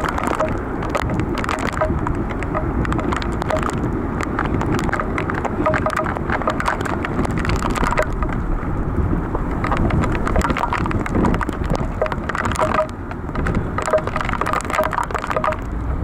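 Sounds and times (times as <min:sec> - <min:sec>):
heavy rain and wind on a car: 0:00.0 - 0:16.0
low rumble: 0:00.0 - 0:16.0
raindrops crackling on glass: 0:00.0 - 0:16.0.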